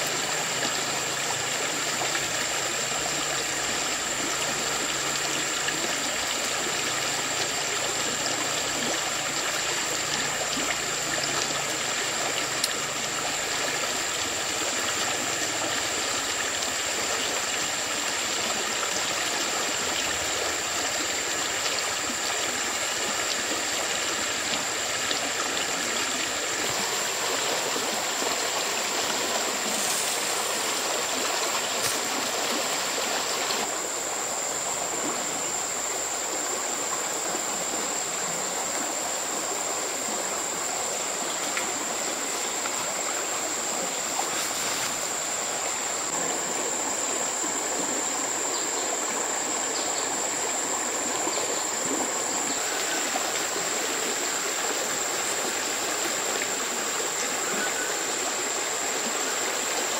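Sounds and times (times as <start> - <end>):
water rushing in stream: 0.0 - 59.9.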